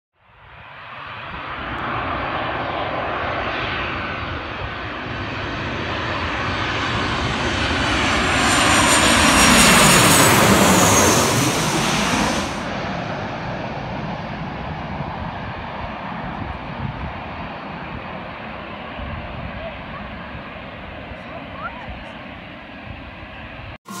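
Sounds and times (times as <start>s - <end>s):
jet airliner passing overhead: 0.2s - 24.0s.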